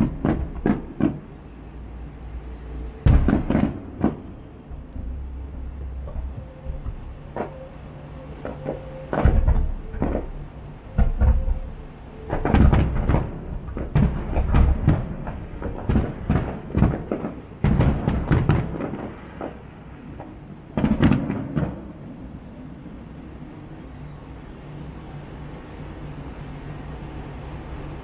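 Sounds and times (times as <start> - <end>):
fireworks bursting with echo: 0.0 - 23.2.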